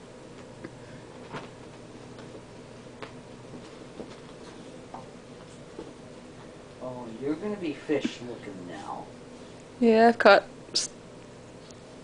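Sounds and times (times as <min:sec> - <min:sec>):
steady motor hum: 0:00.0 - 0:12.0.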